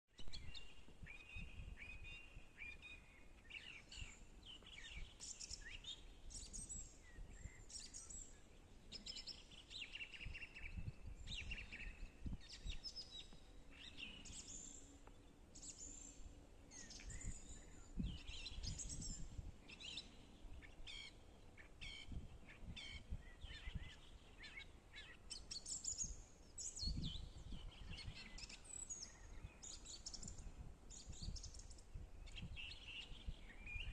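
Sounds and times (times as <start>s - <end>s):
songbirds chirping and trilling: 0.2s - 33.9s.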